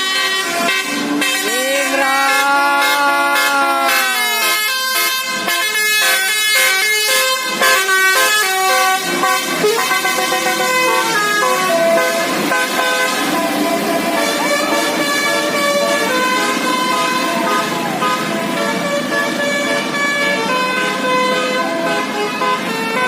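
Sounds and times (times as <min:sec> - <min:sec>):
musical bus air horn: 0:00.0 - 0:23.0.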